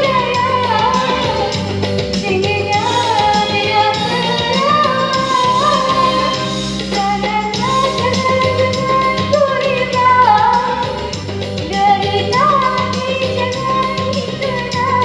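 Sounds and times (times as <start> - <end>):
backing track with steady beat: 0.0 - 15.0.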